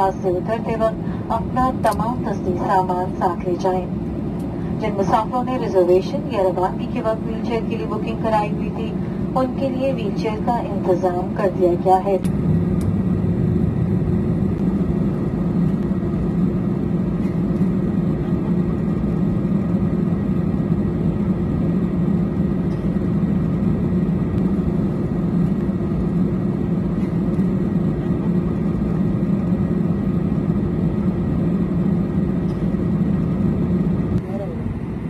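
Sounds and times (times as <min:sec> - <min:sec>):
airplane cabin rumble: 0:00.0 - 0:35.0
jet engines humming: 0:00.0 - 0:35.0.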